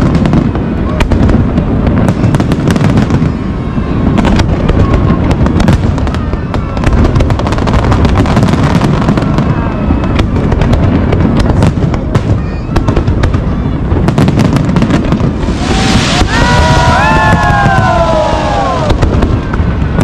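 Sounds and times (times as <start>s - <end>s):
fireworks shells exploding rumble: 0.0s - 20.0s
sharp firework cracks and crackles: 0.0s - 20.0s.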